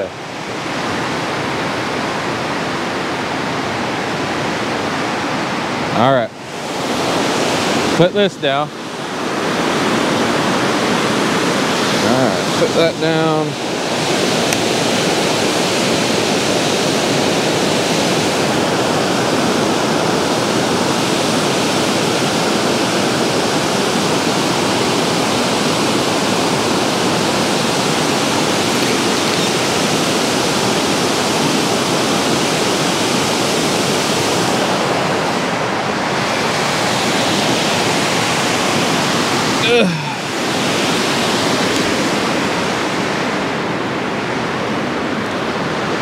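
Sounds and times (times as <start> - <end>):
water rushing over a spillway: 0.0 - 46.0.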